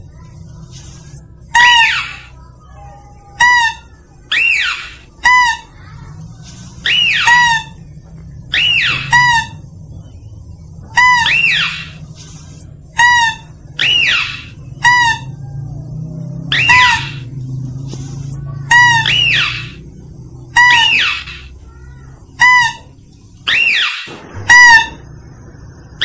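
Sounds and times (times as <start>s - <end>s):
faint low hum: 0.0s - 26.0s
high-pitched lure calls: 0.7s - 6.0s, 6.7s - 15.6s, 16.4s - 17.4s, 18.2s - 26.0s.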